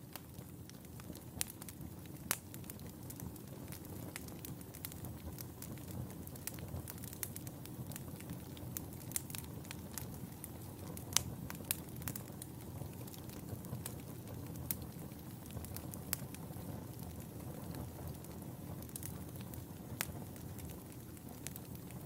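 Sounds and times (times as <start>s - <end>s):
fire crackles and pops: 0.0s - 22.0s
low rumble of flames: 0.0s - 22.0s.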